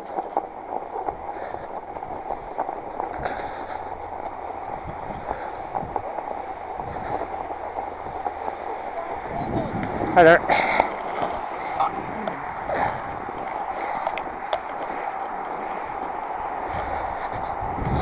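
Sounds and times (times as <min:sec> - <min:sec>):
bike clicks and rattles: 0:00.0 - 0:18.0
bike tyres crunching through snow: 0:00.0 - 0:18.0.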